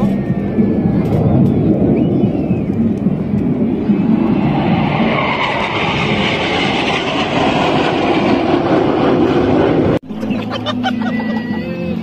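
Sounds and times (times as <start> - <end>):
jets flying past: 0.0 - 10.3.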